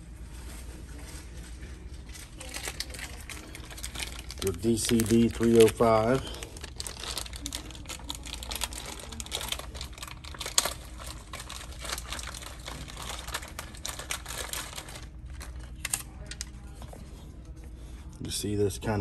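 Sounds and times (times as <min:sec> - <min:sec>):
plastic bag crinkling: 0:00.2 - 0:17.0.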